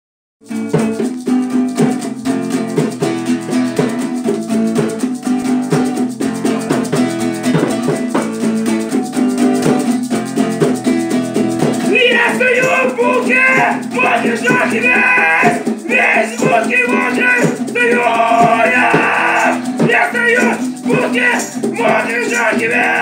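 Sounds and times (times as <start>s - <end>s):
acoustic guitar strumming chords: 0.4s - 23.0s.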